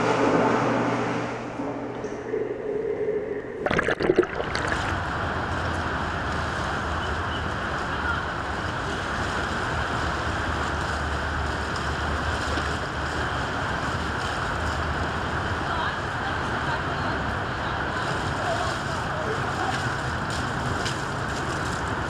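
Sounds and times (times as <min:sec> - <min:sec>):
wind: 0:00.0 - 0:22.0
water washing against seawall: 0:03.6 - 0:22.0.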